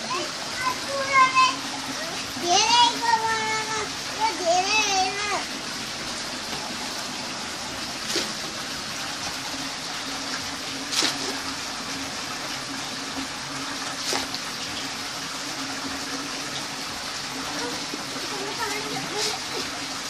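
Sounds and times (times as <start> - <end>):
running water rushing in a tank: 0.0 - 20.0.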